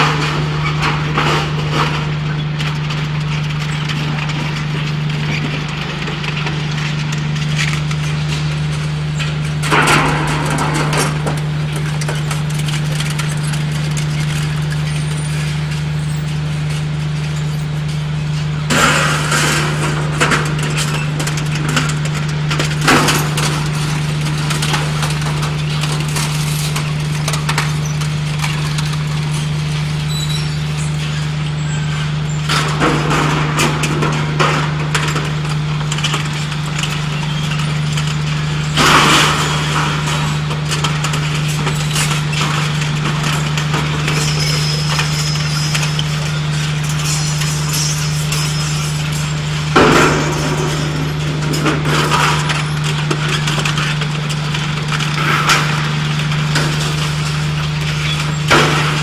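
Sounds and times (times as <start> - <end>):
scrap crunching and clattering: 0.0 - 59.0.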